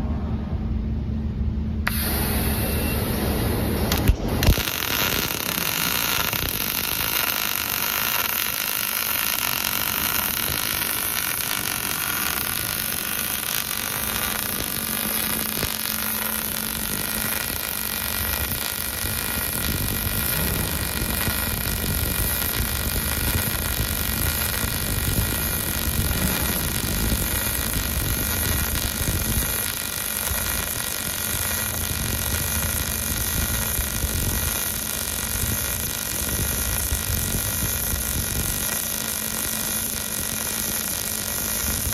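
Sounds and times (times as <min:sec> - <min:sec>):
faint constant tones: 0:00.0 - 0:41.9
arc welding hiss: 0:03.9 - 0:41.9.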